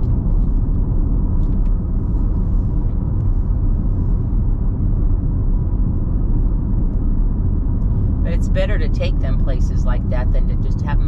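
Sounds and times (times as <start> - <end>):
road noise inside moving car: 0.0 - 11.0.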